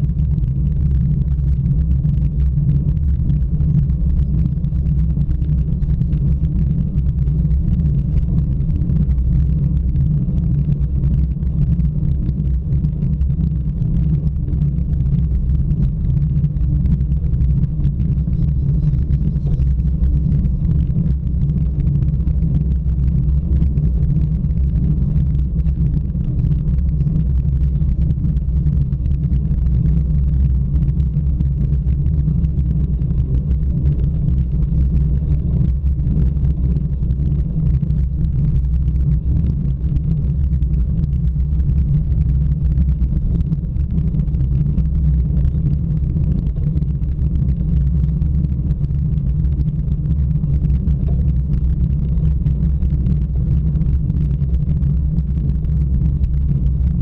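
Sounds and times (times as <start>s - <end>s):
road and wind rumble: 0.0s - 57.0s.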